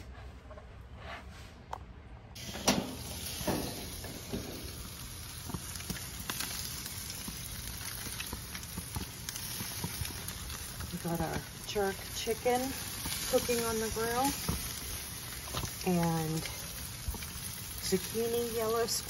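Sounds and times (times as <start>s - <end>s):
chicken sizzling on grill: 2.4s - 19.0s.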